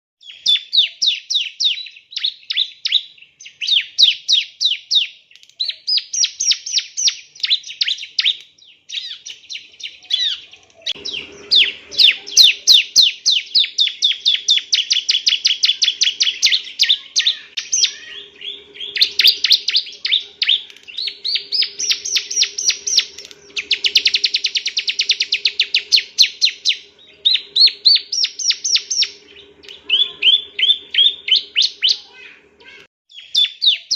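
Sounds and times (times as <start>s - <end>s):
bird singing fast trilled phrases: 0.2s - 33.9s.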